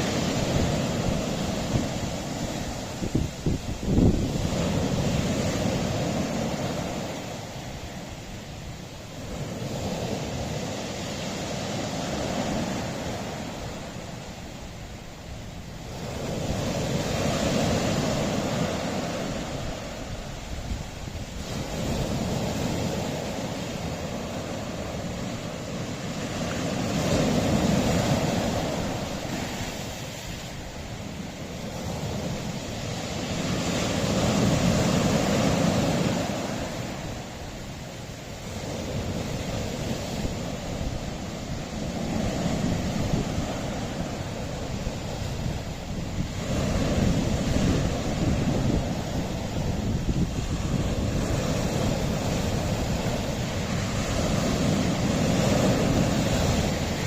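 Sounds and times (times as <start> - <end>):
waves breaking on rocky shore: 0.0 - 57.0
wind noise on microphone: 0.0 - 57.0.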